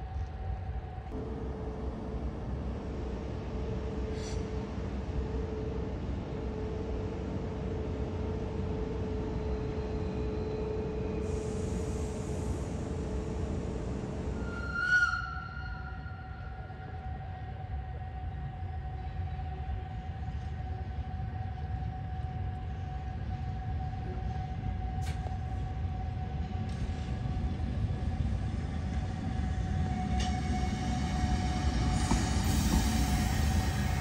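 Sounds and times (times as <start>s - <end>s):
electric locomotive rumble and hum: 0.0s - 34.0s.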